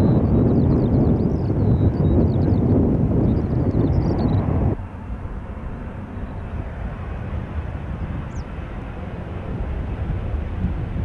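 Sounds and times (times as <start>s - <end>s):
distant jet engines rumbling: 0.0s - 11.0s
wind noise: 0.0s - 11.0s
loud rumble: 1.5s - 11.0s.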